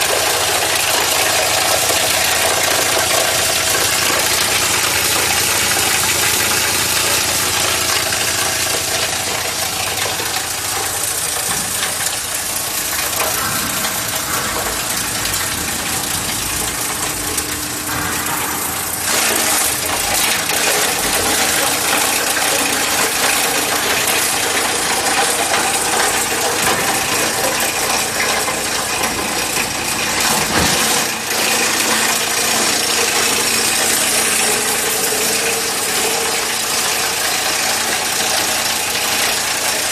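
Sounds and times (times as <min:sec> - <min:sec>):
plastic granulator running: 0:00.0 - 0:39.9.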